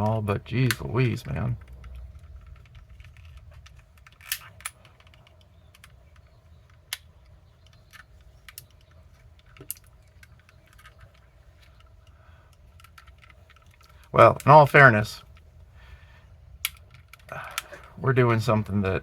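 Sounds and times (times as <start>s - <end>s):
plastic switch parts clicking: 0.0s - 15.5s, 16.5s - 18.5s.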